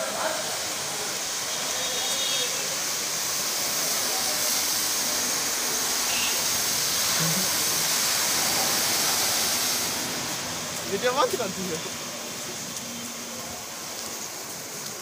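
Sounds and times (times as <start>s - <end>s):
water jet spraying onto car: 0.0s - 15.0s.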